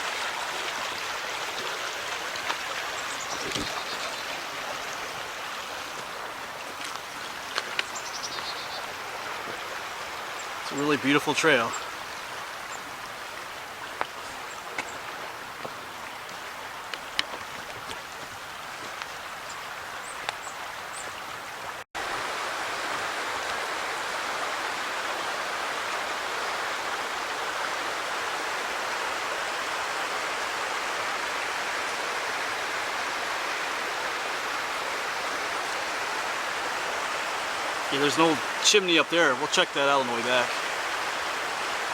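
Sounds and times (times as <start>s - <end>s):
creek rushing: 0.0s - 41.9s.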